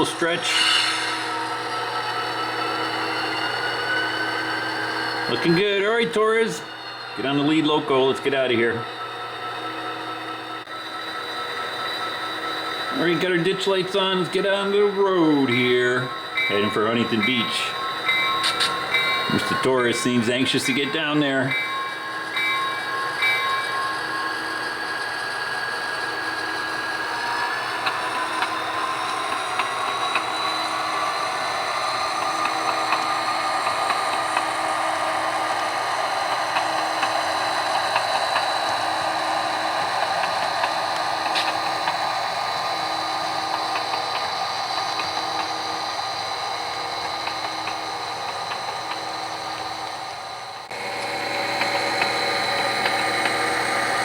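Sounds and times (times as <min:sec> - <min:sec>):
model locomotive engine sound: 0:00.0 - 0:54.0.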